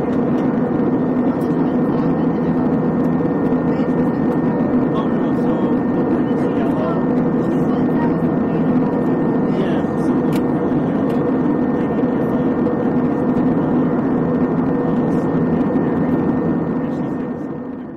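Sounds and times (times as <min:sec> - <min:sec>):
jet engine and airflow in cabin: 0:00.0 - 0:17.9
steady low hum: 0:00.0 - 0:17.9.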